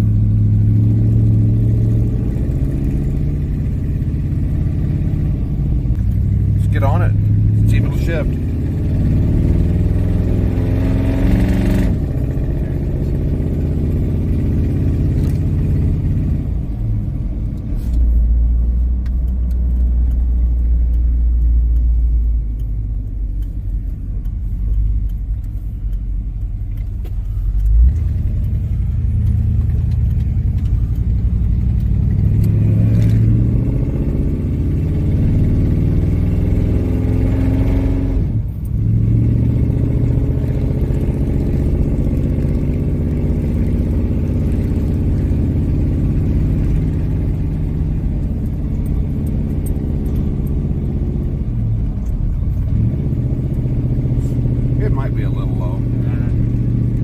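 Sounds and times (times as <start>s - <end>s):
pickup engine shifting gears: 0.0s - 57.0s.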